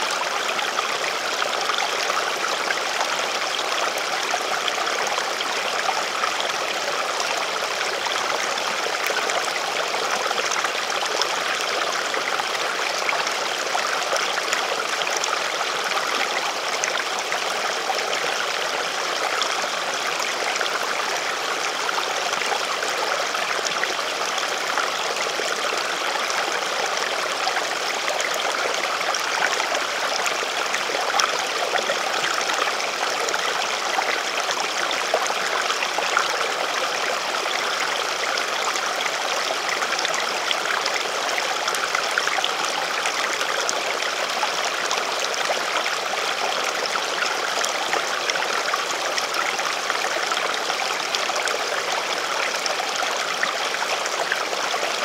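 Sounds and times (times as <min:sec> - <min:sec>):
stream running water: 0:00.0 - 0:55.0.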